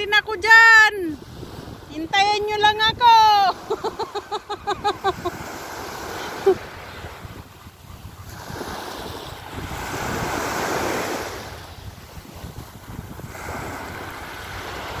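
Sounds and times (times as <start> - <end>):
wind rumble on microphone: 0.0 - 5.6, 6.4 - 15.0
small waves breaking on shore: 0.0 - 15.0.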